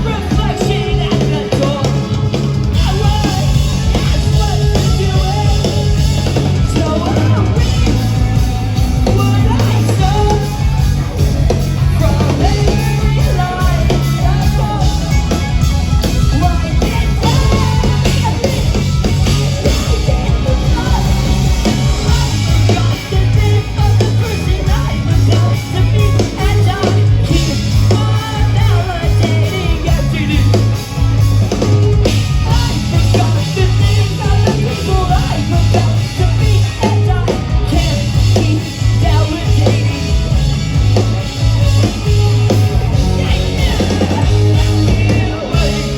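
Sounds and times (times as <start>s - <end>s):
rock music with singing: 0.0s - 45.9s.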